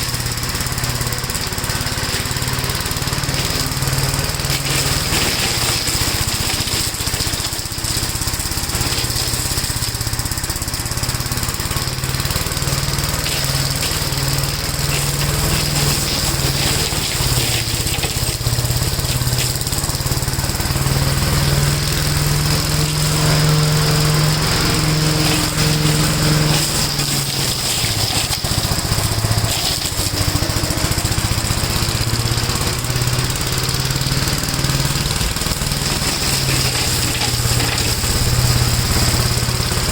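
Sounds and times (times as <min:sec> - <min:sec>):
walk-behind tractor engine running: 0:00.0 - 0:39.9.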